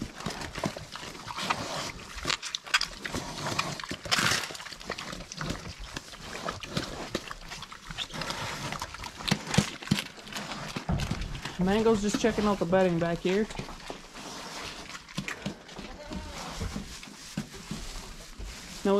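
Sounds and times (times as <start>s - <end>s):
pigs crunching and chewing: 0.0s - 18.9s.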